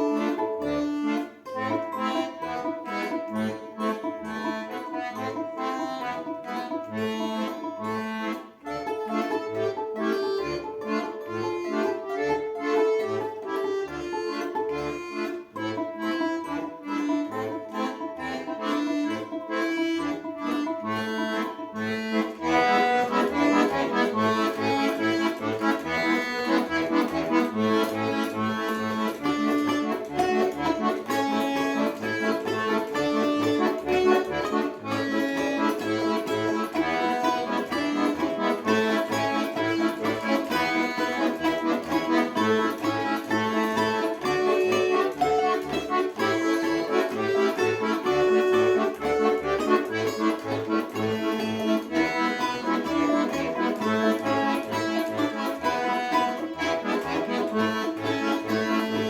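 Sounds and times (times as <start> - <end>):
accordion playing a tune: 0.0 - 59.0.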